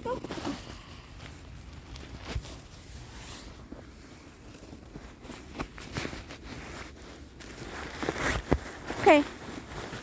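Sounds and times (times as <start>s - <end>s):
footsteps in snow: 0.0s - 10.0s.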